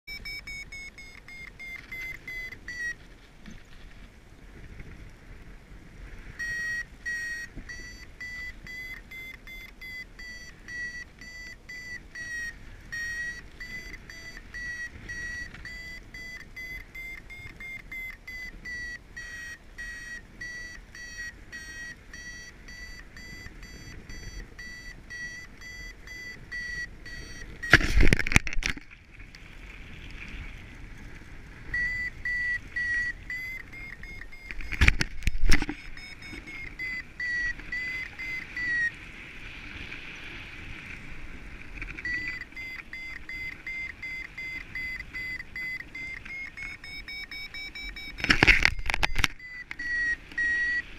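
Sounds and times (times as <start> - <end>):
variometer beeping rapidly: 0.1 - 3.0, 6.4 - 28.8, 31.6 - 39.0, 42.0 - 50.9.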